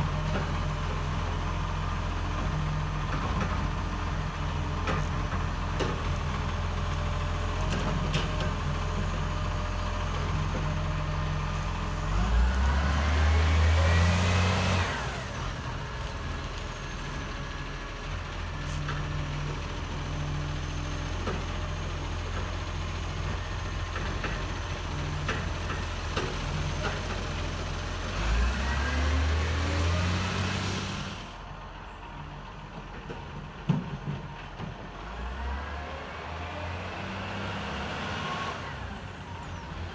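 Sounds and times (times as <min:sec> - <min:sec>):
diesel truck engine idling and revving: 0:00.0 - 0:39.9.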